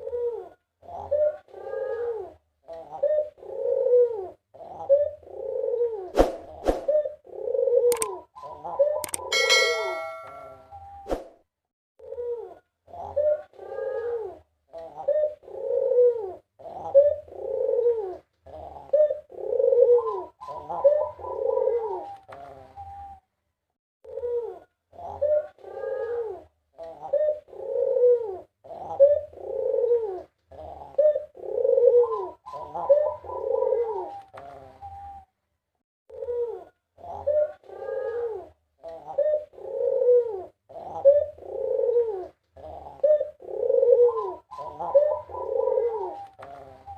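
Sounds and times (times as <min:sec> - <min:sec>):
dove cooing: 0:00.0 - 0:11.0, 0:12.0 - 0:23.3, 0:24.1 - 0:35.3, 0:36.1 - 0:46.9.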